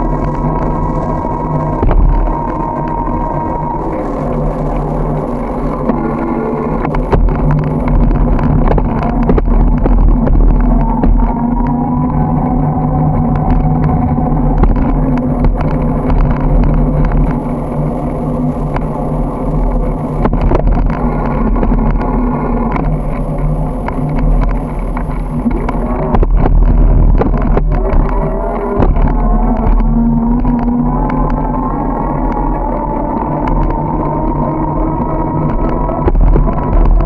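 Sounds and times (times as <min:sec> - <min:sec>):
motor traffic hum: 0:00.0 - 0:37.0
small clicks and rattles: 0:00.0 - 0:37.0
wind rumble on microphone: 0:00.0 - 0:37.0.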